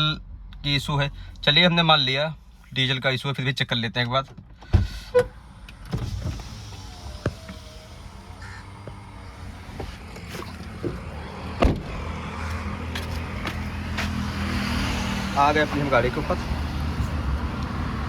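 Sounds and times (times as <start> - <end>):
low vehicle hum: 0.0 - 18.0.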